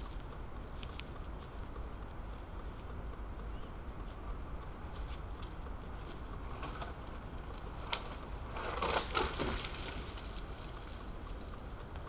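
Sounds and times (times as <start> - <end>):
rustling in dry leaves: 0.0 - 12.0.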